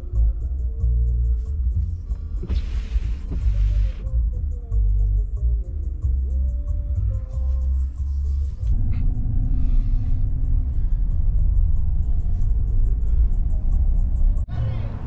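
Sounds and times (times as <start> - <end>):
bass-heavy music with fast beat: 0.0 - 14.6
road and engine rumble: 0.0 - 15.0.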